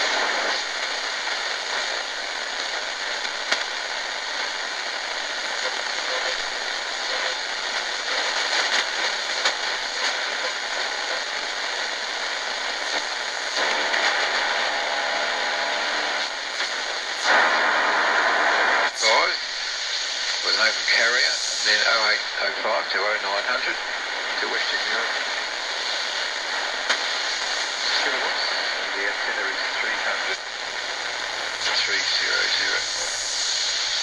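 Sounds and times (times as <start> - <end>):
radio crackles: 0.0 - 34.0
shortwave radio static: 0.0 - 34.0
weak radio signal: 0.0 - 34.0.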